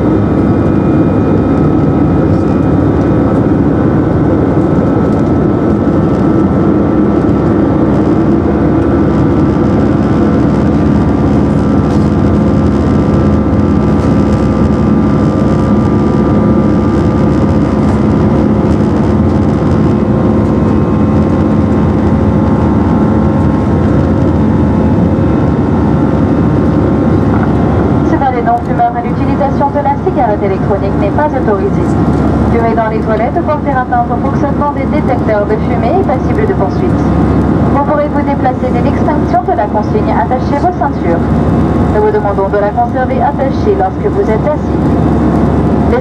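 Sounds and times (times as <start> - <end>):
jet engines roaring: 0.0 - 46.0
steady humming tones: 0.0 - 46.0.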